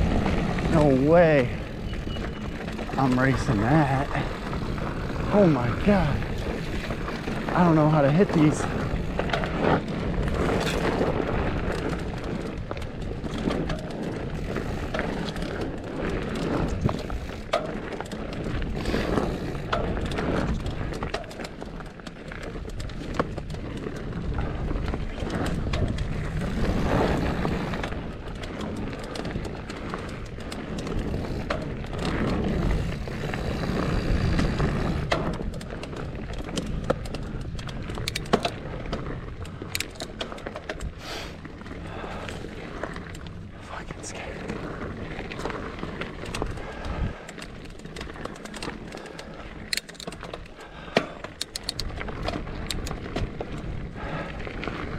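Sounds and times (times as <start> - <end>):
bike rattling over bumps: 0.0 - 54.9
bike tyre rolling on dirt: 0.0 - 54.9.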